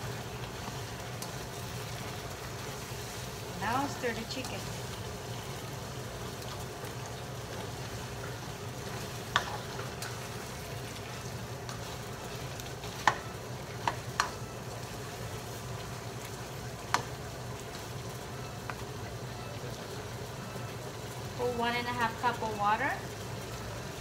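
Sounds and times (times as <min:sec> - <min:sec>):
chicken sizzling in frying pan: 0:00.0 - 0:24.0.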